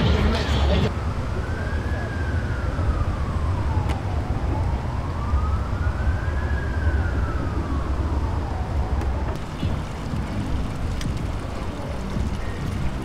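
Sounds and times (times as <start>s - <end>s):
emergency siren wailing: 0.0s - 13.0s
steady low rumble: 0.0s - 13.0s.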